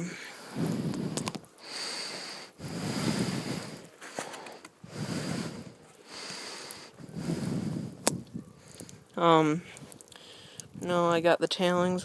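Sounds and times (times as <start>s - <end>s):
gravel and water tumbling in drum: 0.0s - 1.6s, 2.6s - 12.0s.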